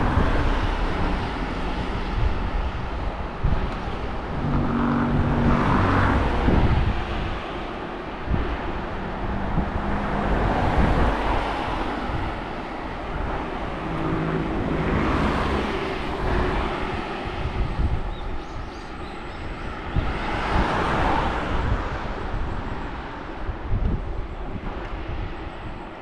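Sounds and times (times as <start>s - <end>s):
road noise while riding: 0.0s - 26.0s
vehicles passing: 0.0s - 26.0s
wind buffeting microphone: 0.0s - 26.0s.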